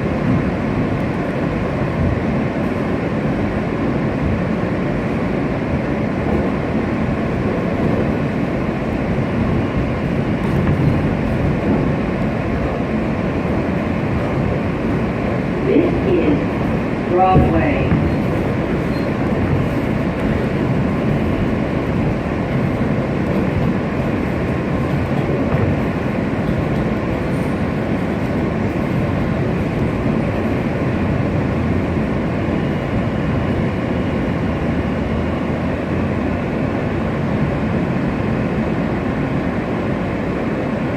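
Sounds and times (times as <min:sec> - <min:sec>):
subway train wheels rumbling: 0:00.0 - 0:40.9.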